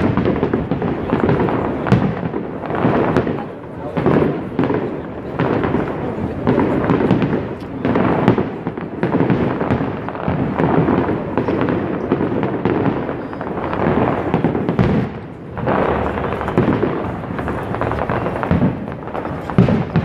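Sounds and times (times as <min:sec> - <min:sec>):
fireworks bursting with echoes: 0:00.0 - 0:20.0.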